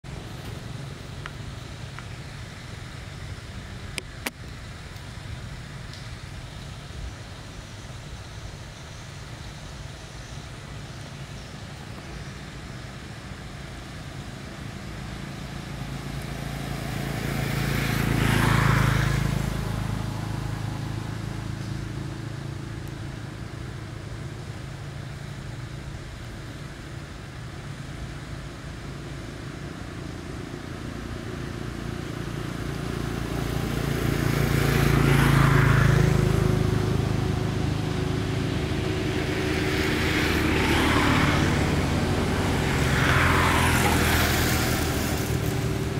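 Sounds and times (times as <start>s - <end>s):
vehicles passing on road: 0.0s - 45.9s.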